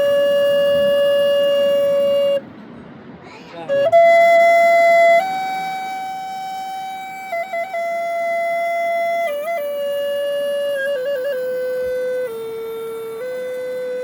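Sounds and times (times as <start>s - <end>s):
flute playing slow melody: 0.0s - 2.5s, 3.5s - 14.0s.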